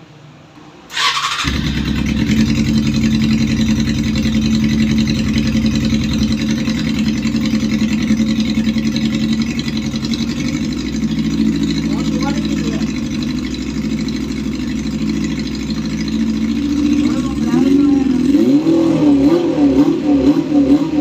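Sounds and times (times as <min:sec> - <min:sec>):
motorcycle engine idling: 0:01.0 - 0:20.1.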